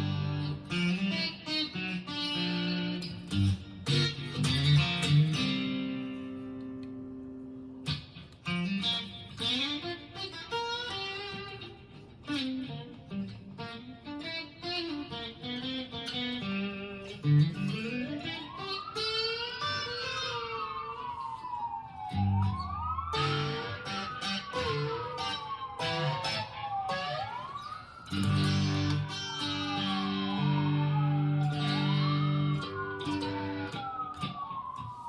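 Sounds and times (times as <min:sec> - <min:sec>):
electric guitar notes and chords: 0:00.0 - 0:35.0.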